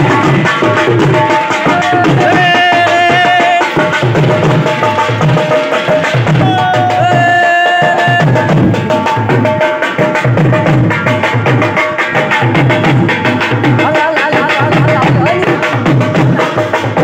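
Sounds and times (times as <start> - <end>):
barrel drum beaten with sticks: 0.0 - 17.0.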